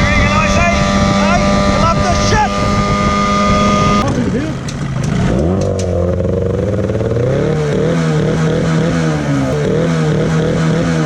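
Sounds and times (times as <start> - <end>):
outboard motor revving: 0.0 - 11.0.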